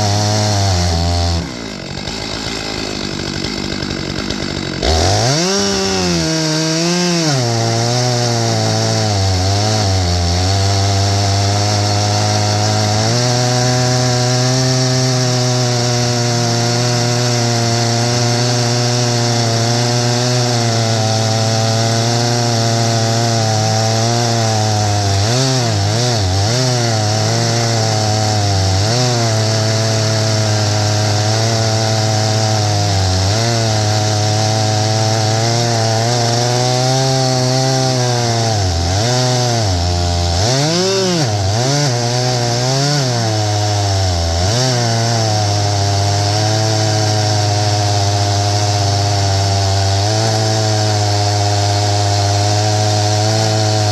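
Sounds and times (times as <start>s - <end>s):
chainsaw ripping through log: 0.0s - 53.9s.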